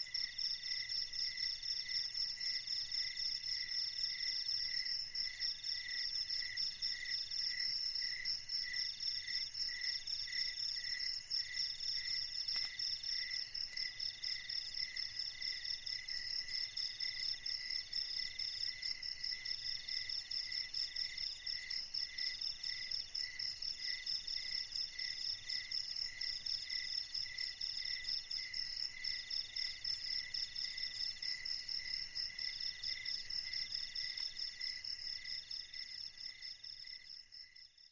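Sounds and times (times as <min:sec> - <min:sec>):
insects chirping and trilling: 0:00.0 - 0:37.9.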